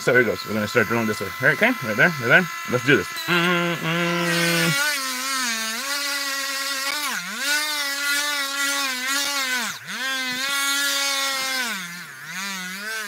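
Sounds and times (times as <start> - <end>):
rotary tool whining: 0.0 - 13.0.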